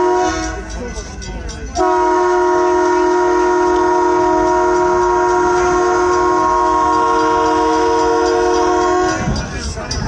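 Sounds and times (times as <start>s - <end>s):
train horn chord: 0.0s - 0.8s, 1.7s - 9.5s.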